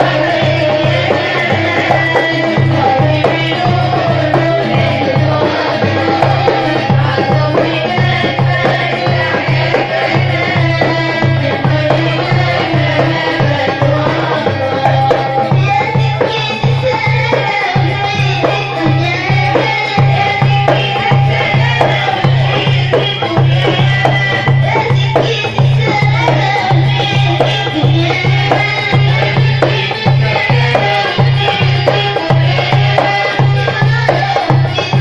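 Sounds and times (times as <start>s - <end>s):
fast low drum beat: 0.0s - 35.0s
hand percussion: 0.0s - 35.0s.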